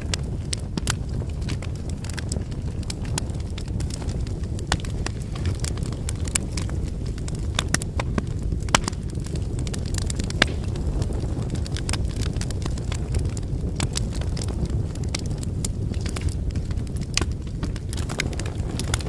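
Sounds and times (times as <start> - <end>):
burning logs crackling and popping: 0.0 - 19.0
fire low rumble: 0.0 - 19.0.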